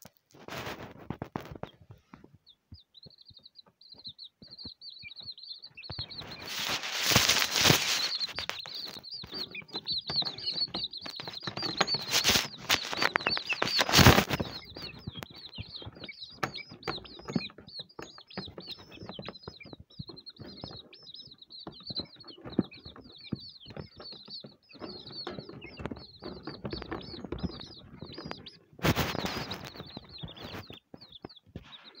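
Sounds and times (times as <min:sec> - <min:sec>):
chicks flapping and rustling: 0:00.0 - 0:32.0
chicks peeping: 0:00.0 - 0:32.0.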